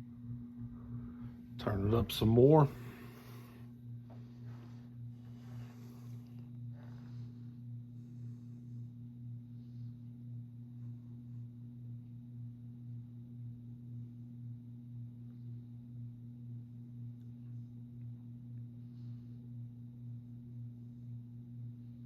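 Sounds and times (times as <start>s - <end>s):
ceiling fan motor humming: 0.0s - 22.0s.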